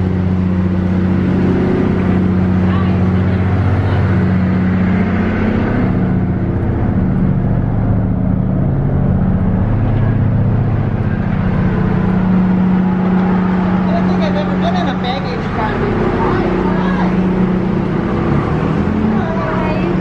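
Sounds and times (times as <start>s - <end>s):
diesel locomotive engine idling: 0.0s - 20.0s.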